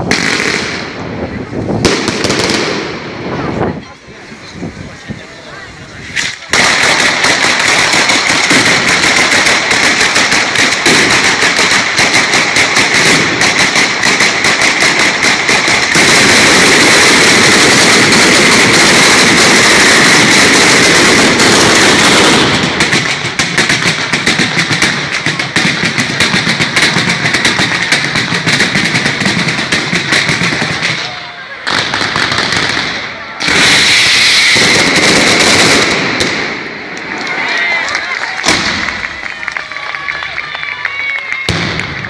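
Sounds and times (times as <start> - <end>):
firecrackers banging: 0.0 - 42.0.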